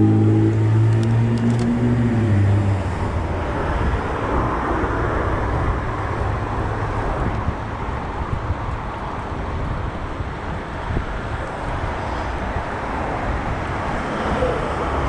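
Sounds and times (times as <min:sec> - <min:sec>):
car traffic: 0:00.0 - 0:15.0
road noise: 0:00.0 - 0:15.0
wind on microphone: 0:00.0 - 0:15.0.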